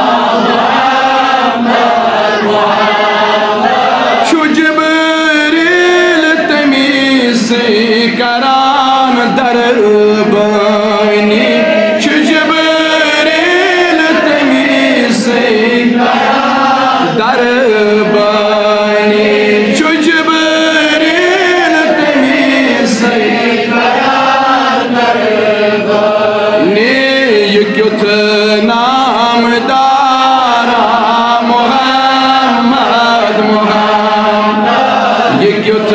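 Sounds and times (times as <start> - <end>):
man singing devotional song: 0.0 - 35.9.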